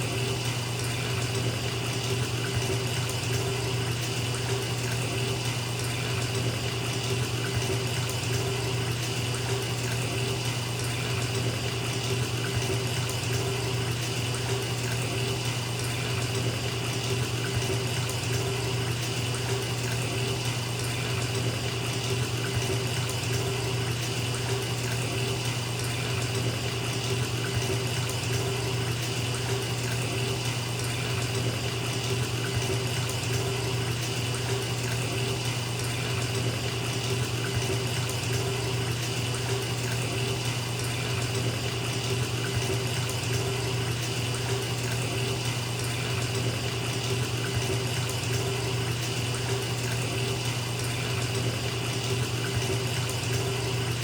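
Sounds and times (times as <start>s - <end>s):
tap water pouring into tub: 0.0s - 54.0s.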